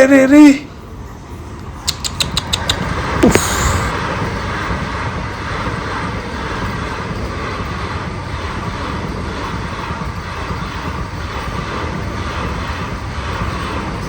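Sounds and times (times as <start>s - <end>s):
train wheels rumbling on rails: 0.7s - 14.0s
rush of air from passing train: 2.7s - 14.0s.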